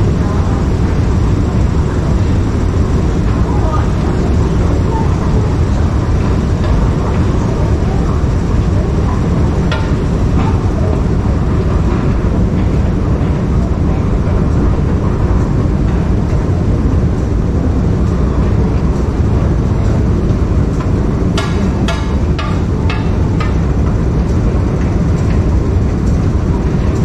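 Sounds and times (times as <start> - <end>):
steady low rumbling: 0.0 - 27.0.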